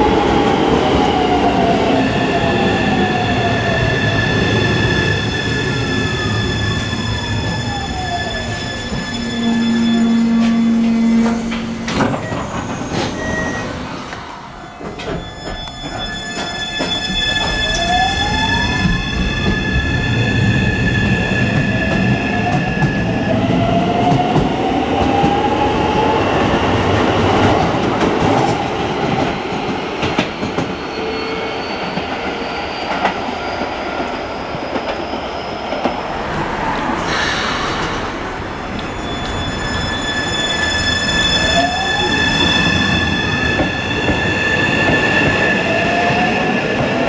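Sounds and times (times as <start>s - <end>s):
train inverter whining: 0.0s - 26.5s, 27.2s - 47.0s
rail running noise: 0.0s - 47.0s.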